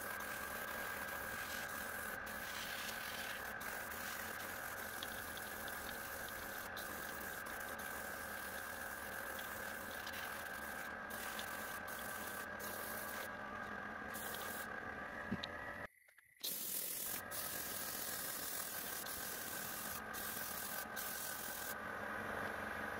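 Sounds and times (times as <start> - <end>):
airbrush spraying hiss: 0.0 - 13.3, 14.1 - 14.7, 16.4 - 21.8
motor hum: 0.0 - 22.9.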